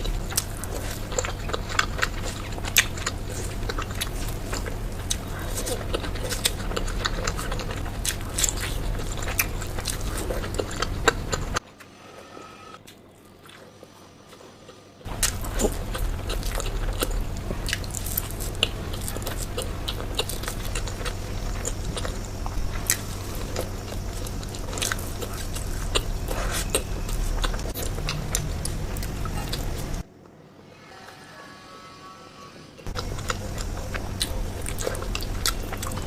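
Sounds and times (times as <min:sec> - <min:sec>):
person biting and chewing: 0:00.0 - 0:11.6, 0:15.1 - 0:30.0, 0:32.9 - 0:36.0
low hum: 0:00.0 - 0:12.8, 0:13.6 - 0:36.0.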